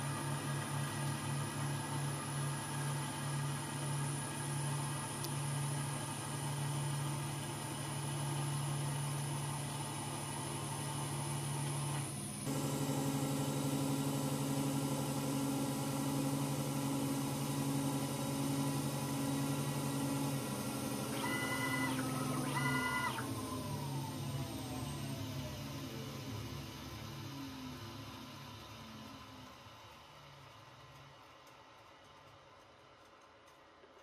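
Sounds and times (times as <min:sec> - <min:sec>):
short rising and falling whines: 0:00.0 - 0:29.5.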